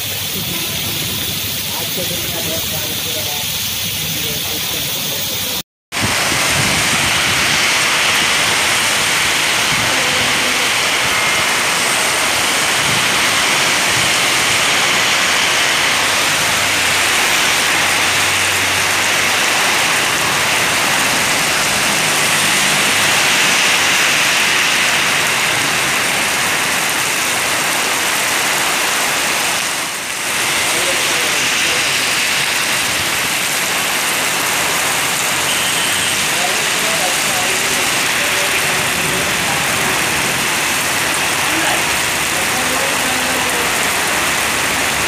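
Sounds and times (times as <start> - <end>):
heavy rain pouring: 0.0 - 45.0
faint road traffic hum: 7.6 - 45.0.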